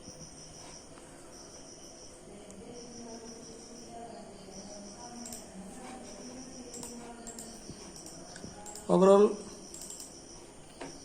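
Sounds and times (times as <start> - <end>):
insect chirping trill: 0.0 - 11.0.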